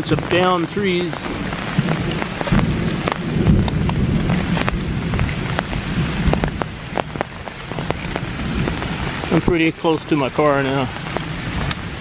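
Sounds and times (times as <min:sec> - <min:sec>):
low rumble of thunder: 0:00.0 - 0:09.8
heavy rain on leaves: 0:00.0 - 0:12.0.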